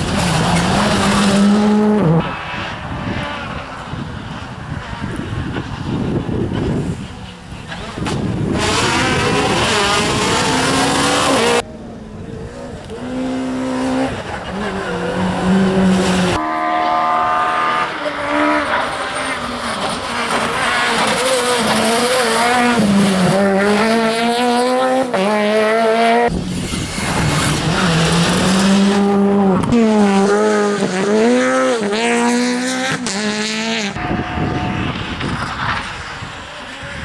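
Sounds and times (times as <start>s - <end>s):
rally car engines revving: 0.0s - 37.0s.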